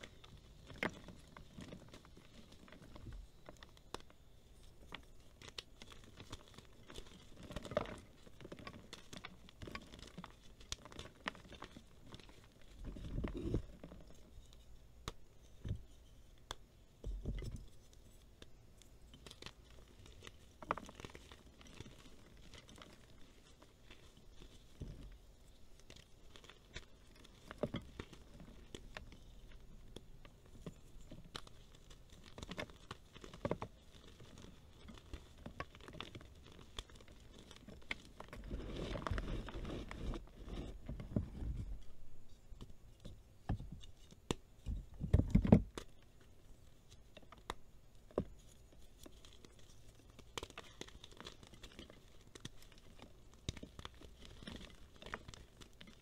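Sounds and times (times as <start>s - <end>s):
hands crushing chalk: 0.0s - 41.8s, 42.6s - 56.0s.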